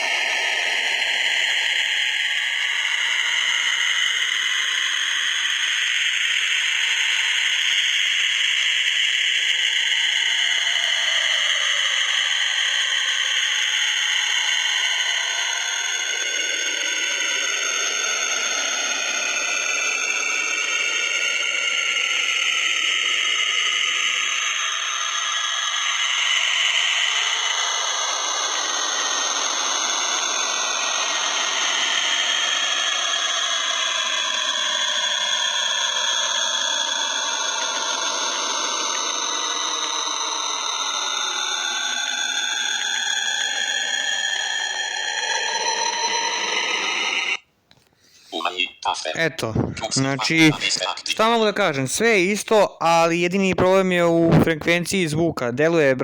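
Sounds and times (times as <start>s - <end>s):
eerie steady hiss: 0.0s - 47.4s
sliding whistle-like tones: 0.0s - 48.8s, 49.5s - 55.9s.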